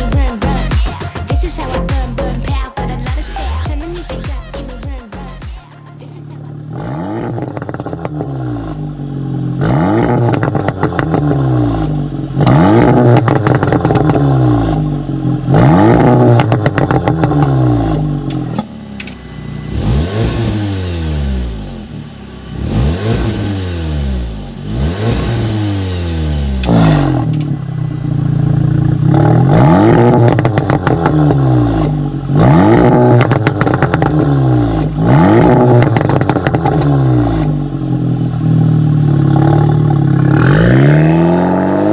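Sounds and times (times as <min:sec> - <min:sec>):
car engine revving: 0:06.4 - 0:41.9.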